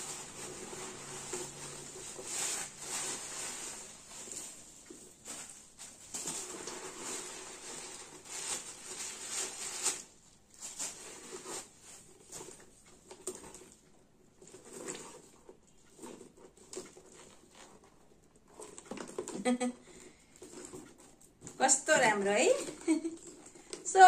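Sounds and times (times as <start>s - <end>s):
bag handling noises: 0.0s - 24.0s
paper rustling: 0.0s - 24.0s.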